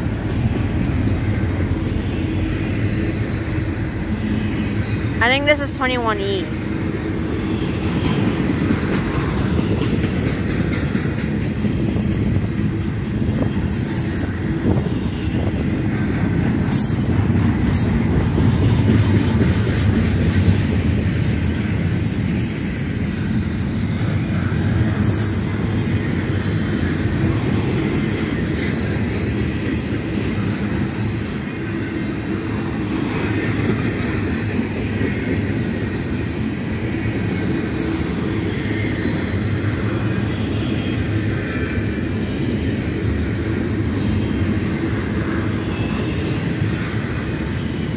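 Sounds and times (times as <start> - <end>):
steel wheels rumbling on rail: 0.0 - 47.9.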